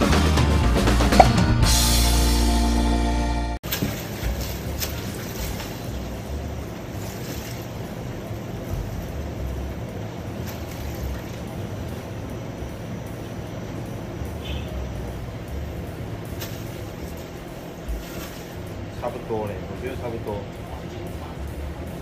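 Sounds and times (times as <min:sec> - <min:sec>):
machinery rumble and hiss: 0:03.8 - 0:22.0.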